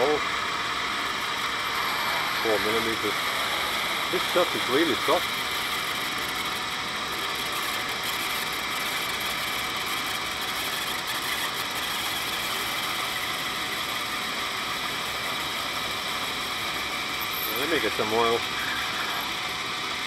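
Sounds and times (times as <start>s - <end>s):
drill boring into metal shaft: 0.0s - 20.0s
metal lathe running: 0.0s - 20.0s.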